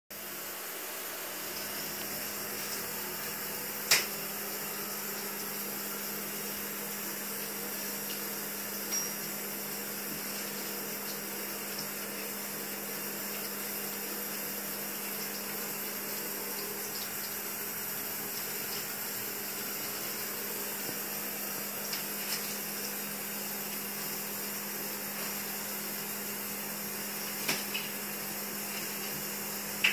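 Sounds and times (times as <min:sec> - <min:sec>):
tap water running into sink: 0:01.3 - 0:29.9.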